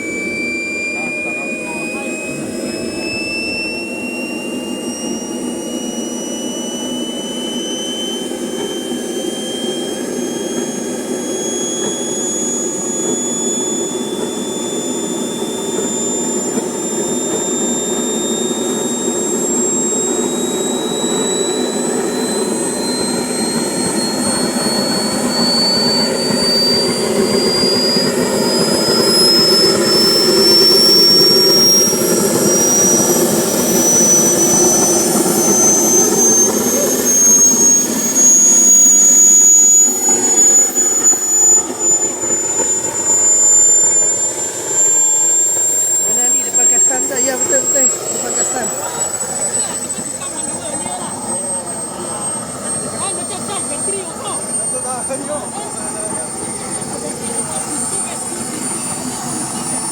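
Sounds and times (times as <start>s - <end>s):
model airplane engine whine: 0.0s - 59.9s.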